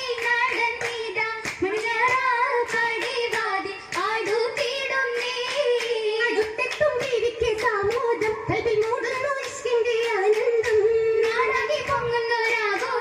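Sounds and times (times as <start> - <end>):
girls singing in chorus: 0.0 - 13.0
rhythmic hand-claps: 0.0 - 13.0.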